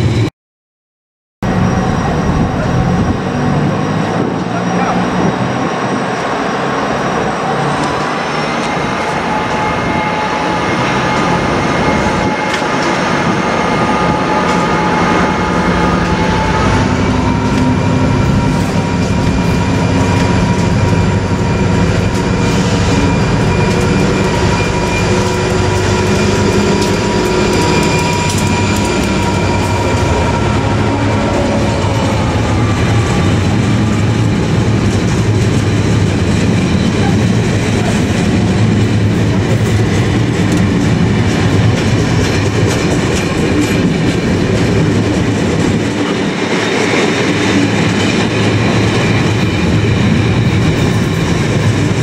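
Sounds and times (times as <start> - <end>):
diesel locomotive engine rumble: 1.4 - 52.0.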